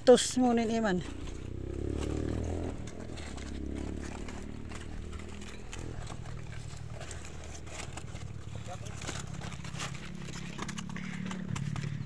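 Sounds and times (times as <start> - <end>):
cabbage leaves rustling: 0.4 - 11.2
basket being handled: 0.6 - 12.0.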